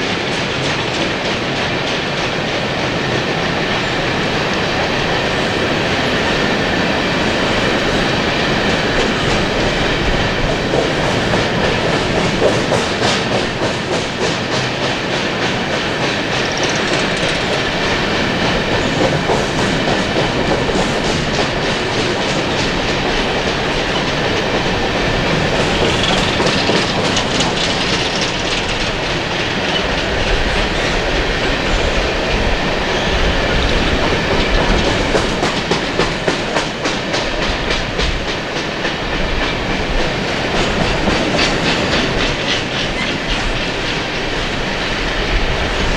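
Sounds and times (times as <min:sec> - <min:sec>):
train cars rumbling past: 0:00.0 - 0:45.9
wheels clacking over rail joints: 0:00.0 - 0:45.9.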